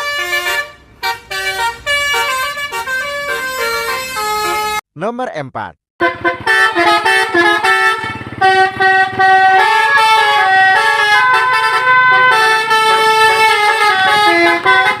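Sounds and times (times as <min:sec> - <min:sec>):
musical bus air horns: 0:00.0 - 0:04.8, 0:06.0 - 0:15.0.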